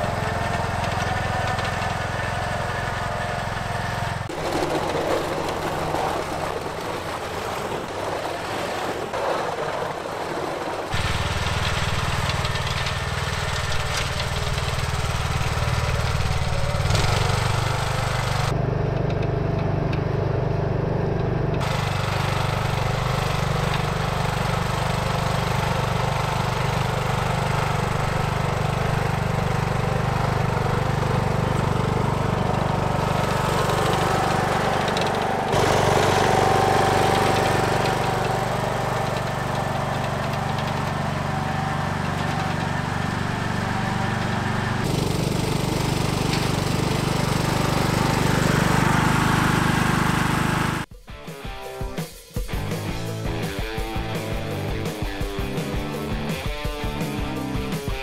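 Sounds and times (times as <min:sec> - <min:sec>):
lawn tractor engine running: 0:00.0 - 0:50.9, 0:52.6 - 0:58.0.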